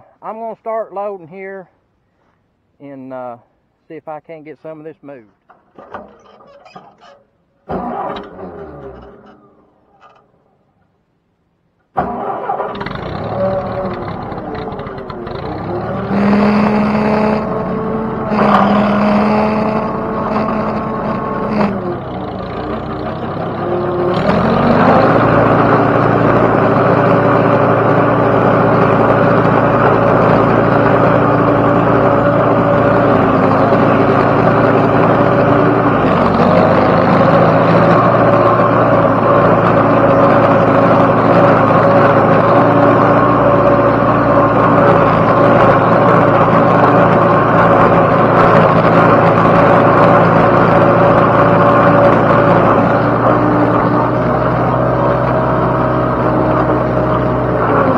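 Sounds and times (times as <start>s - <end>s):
tractor engine revving: 5.5s - 10.5s, 11.9s - 57.9s.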